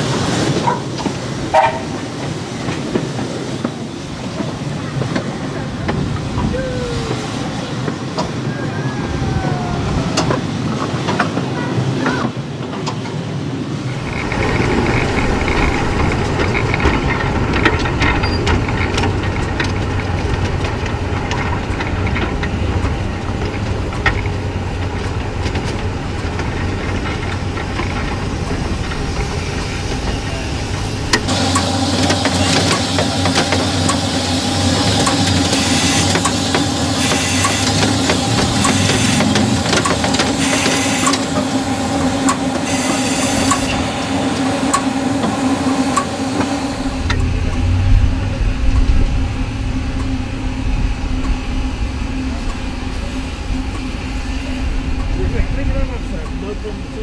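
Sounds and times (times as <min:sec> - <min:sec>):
steam locomotive hum and hiss: 0:00.0 - 0:57.0
train carriages rumbling on rails: 0:00.0 - 0:57.0.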